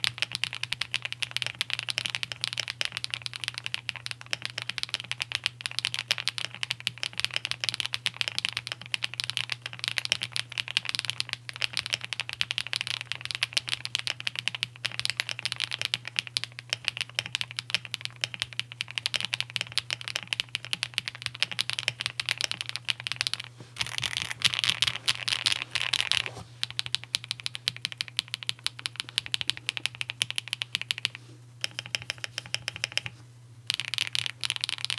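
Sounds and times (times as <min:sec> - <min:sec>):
fast keyboard typing: 0:00.2 - 0:33.1, 0:33.7 - 0:34.9.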